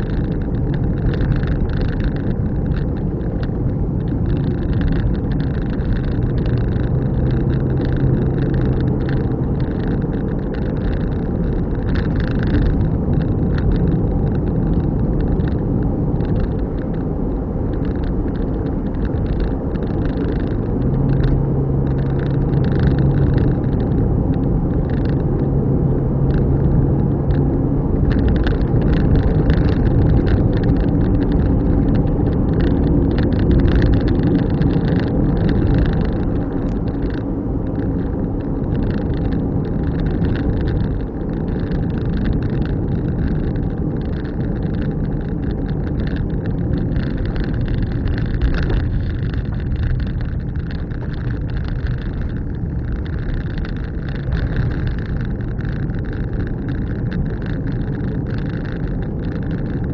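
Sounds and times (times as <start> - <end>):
car engine and tyre noise: 0.0 - 59.9
ticks and crackles: 0.0 - 59.9.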